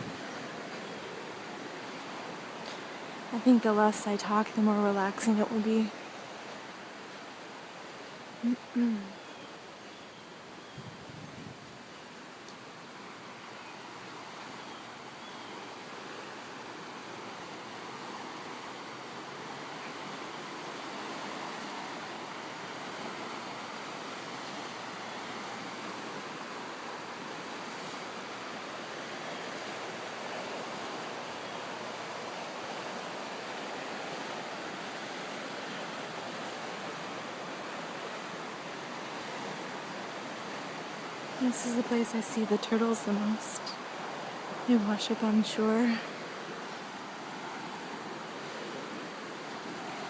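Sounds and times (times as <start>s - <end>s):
river rushing: 0.0s - 50.0s.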